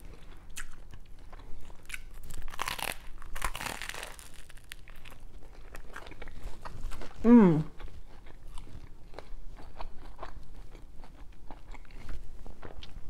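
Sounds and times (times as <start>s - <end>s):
crunching bites and chewing: 0.0s - 7.2s, 7.8s - 13.0s.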